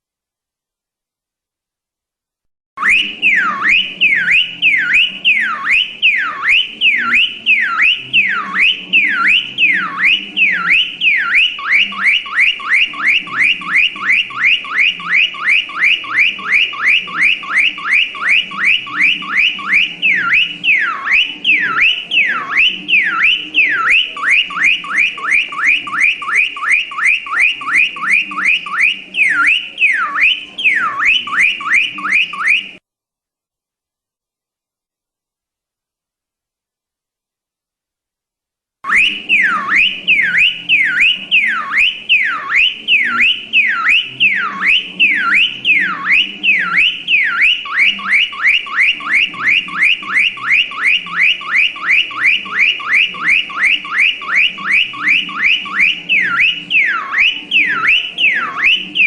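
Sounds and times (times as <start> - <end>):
car alarm siren: 2.8 - 32.8, 38.8 - 59.0.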